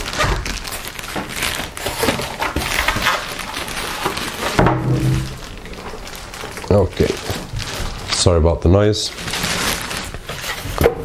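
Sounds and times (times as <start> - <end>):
plastic bag rustling: 0.0 - 11.0
polystyrene foam squeaking and creaking: 0.0 - 11.0.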